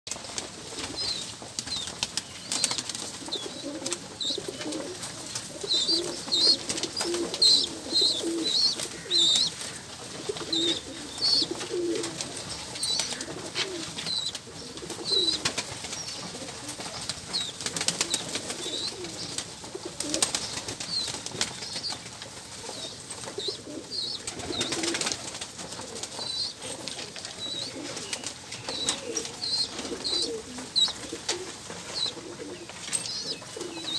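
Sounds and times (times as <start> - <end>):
wings flapping: 0.1 - 33.9
pigeons cooing: 2.5 - 21.9, 22.6 - 33.9.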